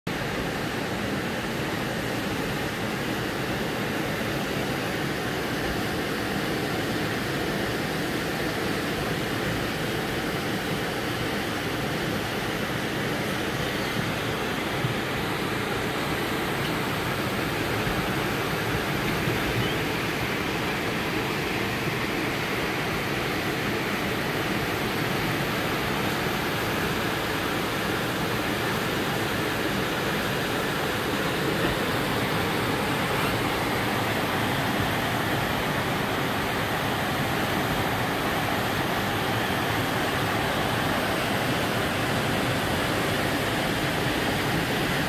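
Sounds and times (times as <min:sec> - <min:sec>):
floodwater rushing: 0:00.1 - 0:45.0.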